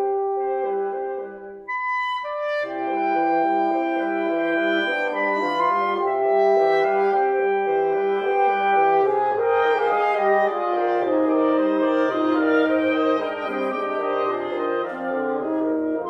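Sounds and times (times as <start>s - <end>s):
woodwind quintet playing chamber music: 0.0s - 16.0s.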